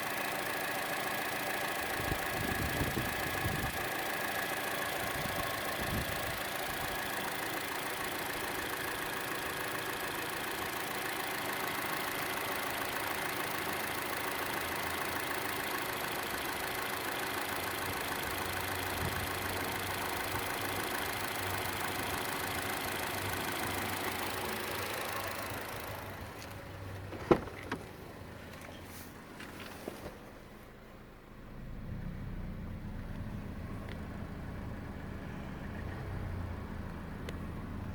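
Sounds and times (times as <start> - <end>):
car engine idling with ticking: 0.0 - 37.9.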